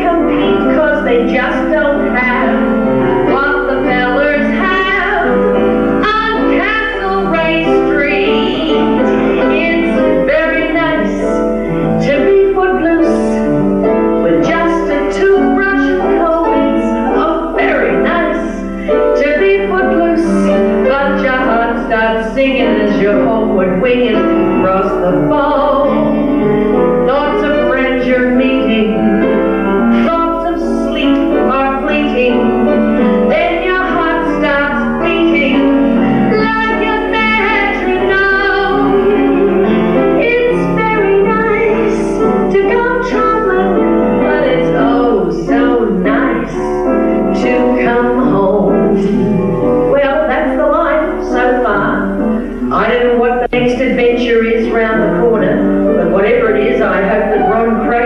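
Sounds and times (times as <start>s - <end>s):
piano accompaniment: 0.0s - 58.0s
woman singing into a microphone: 0.0s - 58.0s.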